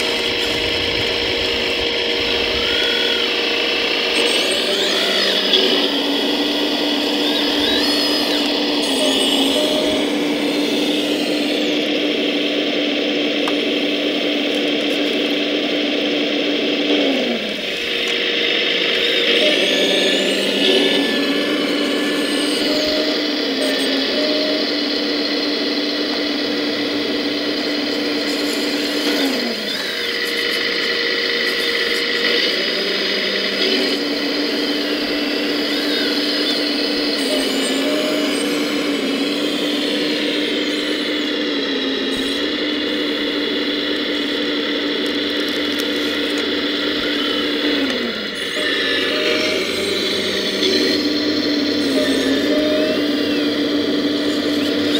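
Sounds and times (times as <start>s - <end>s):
hydraulic pump whining: 0.0s - 54.9s.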